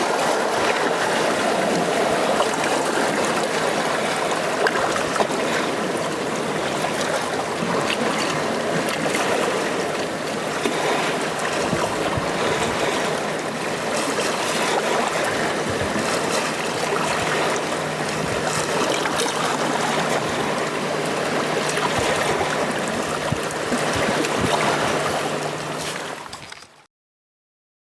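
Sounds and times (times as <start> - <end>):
sea waves splashing: 0.0 - 26.8.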